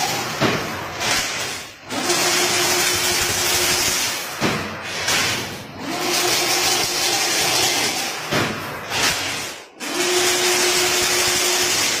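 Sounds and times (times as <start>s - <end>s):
machine clanks: 0.0s - 12.0s
weaving machine whirring: 0.0s - 12.0s.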